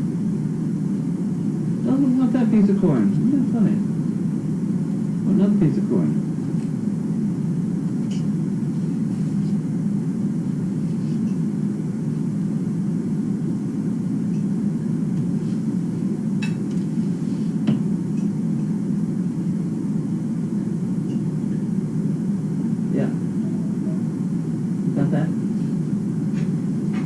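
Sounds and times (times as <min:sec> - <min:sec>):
low background drone: 0:00.0 - 0:27.0.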